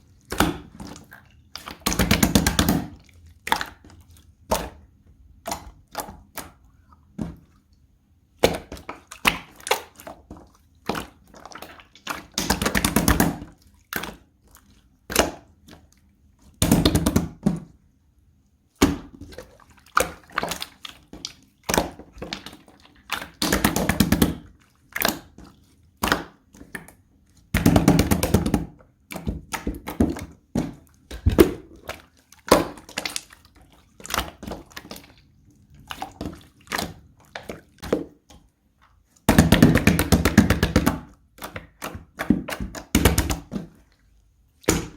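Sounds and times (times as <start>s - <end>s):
slime squishing wet clicks: 0.1s - 7.6s, 8.3s - 17.5s, 18.7s - 43.9s.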